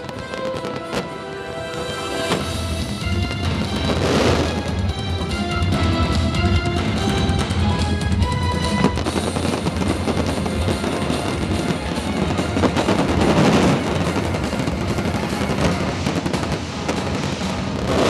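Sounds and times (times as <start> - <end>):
fireworks crackling and popping: 0.0 - 18.0
show music playing: 0.0 - 18.0.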